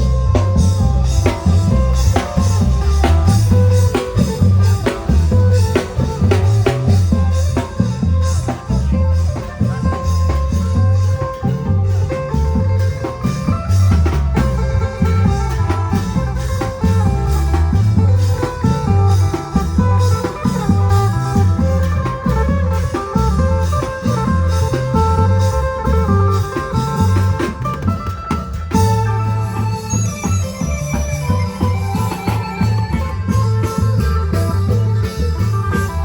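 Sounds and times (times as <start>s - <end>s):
heavy drum beat: 0.0s - 36.0s
melody over drums: 0.0s - 36.0s.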